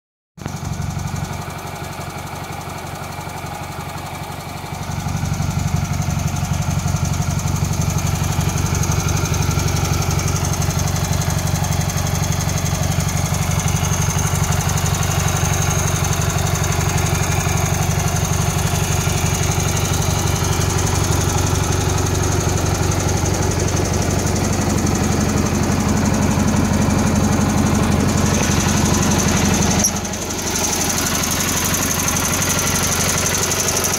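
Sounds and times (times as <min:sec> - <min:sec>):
garden tractor engine running: 0:00.4 - 0:33.9.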